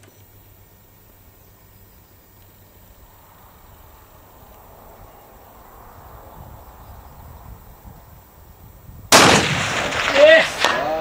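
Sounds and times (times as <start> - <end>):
faint hiss: 0.0 - 11.0
low outdoor rumble: 0.0 - 11.0.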